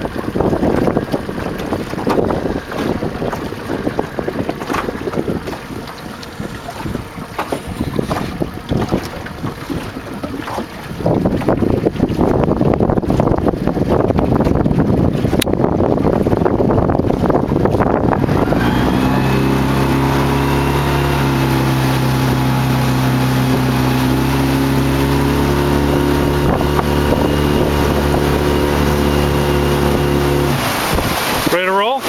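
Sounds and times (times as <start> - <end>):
boat motor idling: 0.0 - 32.0
water noise: 0.0 - 32.0
wind: 0.0 - 32.0.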